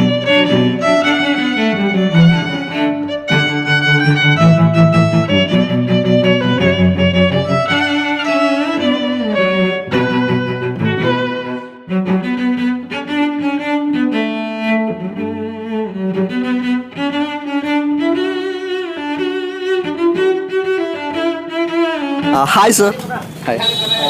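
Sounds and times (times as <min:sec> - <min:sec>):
bowed string melody: 0:00.0 - 0:22.6.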